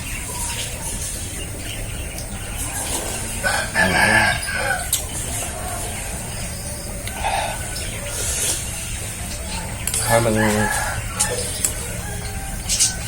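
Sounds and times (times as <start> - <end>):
outdoor background noise: 0.0 - 13.0
rooster crowing: 2.3 - 13.0.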